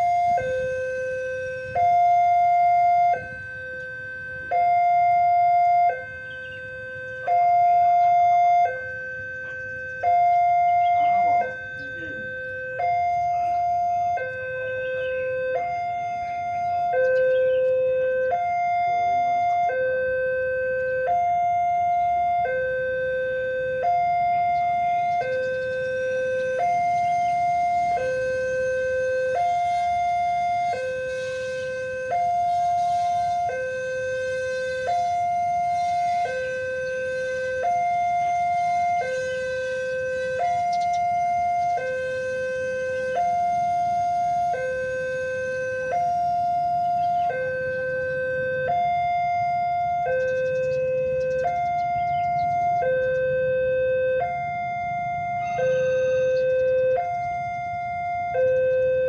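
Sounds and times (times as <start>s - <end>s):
two-tone level crossing alarm: 0.0s - 59.0s.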